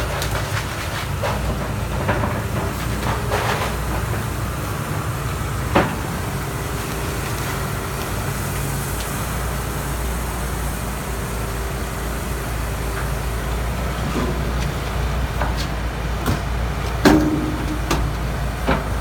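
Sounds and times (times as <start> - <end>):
heavy machine engine droning: 0.0 - 19.0.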